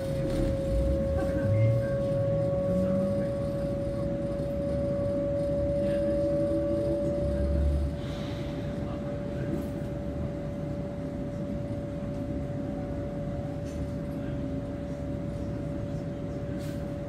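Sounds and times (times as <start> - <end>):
steady hum: 0.0 - 17.0
train rumble: 0.0 - 17.0.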